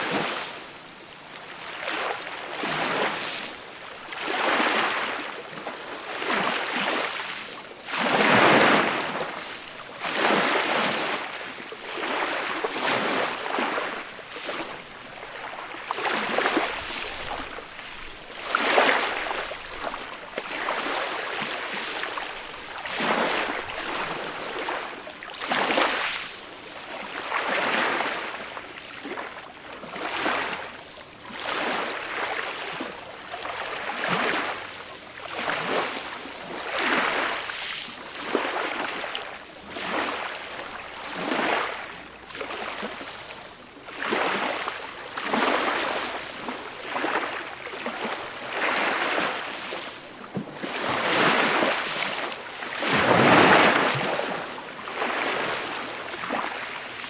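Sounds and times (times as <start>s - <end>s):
sea waves washing up a beach: 0.0s - 57.0s.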